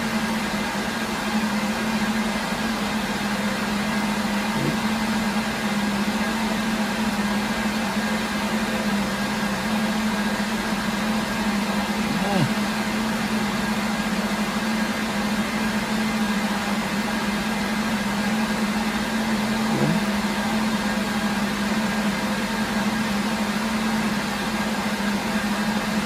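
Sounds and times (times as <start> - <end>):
cooling fans whirring: 0.0 - 26.0
steady low hum: 0.0 - 26.0.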